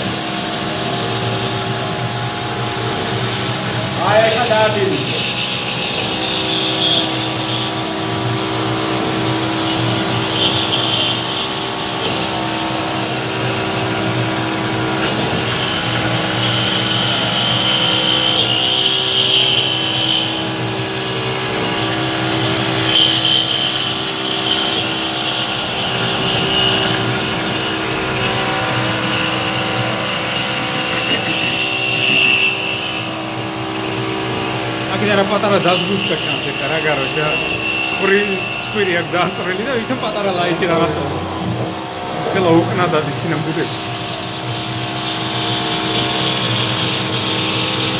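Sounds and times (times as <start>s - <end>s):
high-pitched cutting whine: 0.0s - 47.9s
milling spindle humming: 0.0s - 47.9s.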